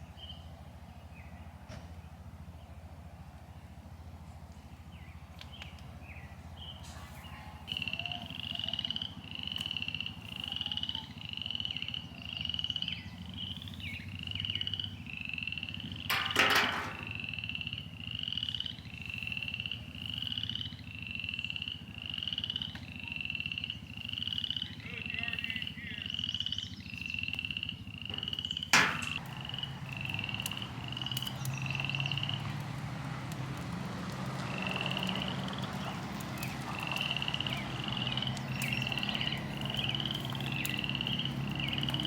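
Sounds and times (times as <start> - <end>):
low steady rumble: 0.0 - 42.0.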